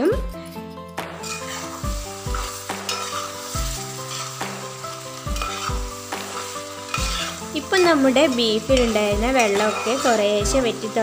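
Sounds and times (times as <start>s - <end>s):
background music: 0.0s - 11.0s
liquid sizzling: 1.0s - 11.0s
spoon stirring in metal pot: 1.2s - 11.0s.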